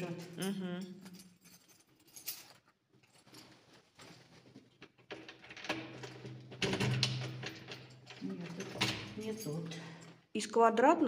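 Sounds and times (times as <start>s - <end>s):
keys rattling: 0.0s - 10.2s.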